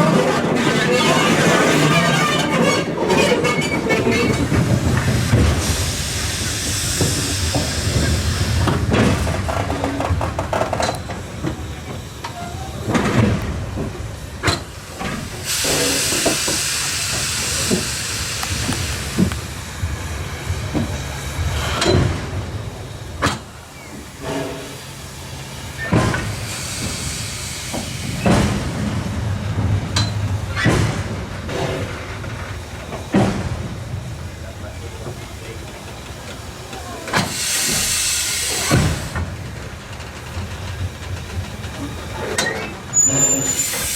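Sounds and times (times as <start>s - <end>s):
steam locomotive hissing steam: 0.0s - 9.7s, 11.3s - 43.9s.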